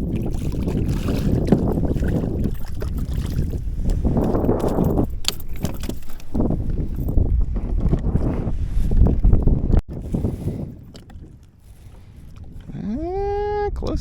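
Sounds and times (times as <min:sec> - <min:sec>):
water against kayak hull: 0:00.0 - 0:13.4
wind buffeting microphone: 0:00.0 - 0:14.0.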